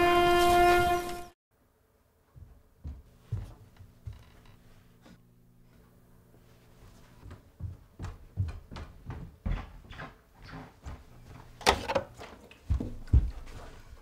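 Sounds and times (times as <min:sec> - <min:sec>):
footsteps down a staircase: 0:02.2 - 0:14.0.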